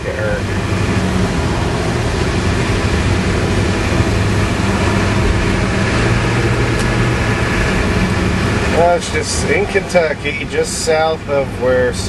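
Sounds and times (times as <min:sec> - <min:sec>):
diesel truck engine droning: 0:00.0 - 0:12.0
tyre and road noise: 0:00.0 - 0:12.0.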